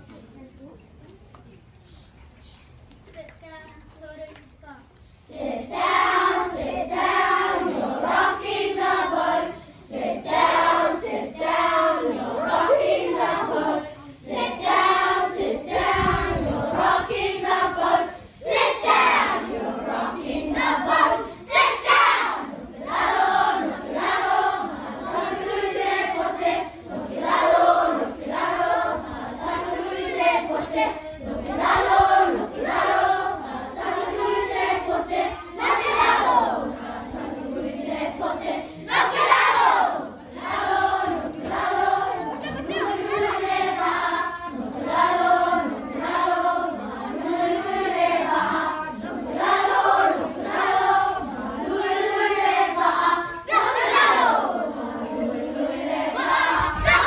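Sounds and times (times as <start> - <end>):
children singing together: 5.2 - 57.0.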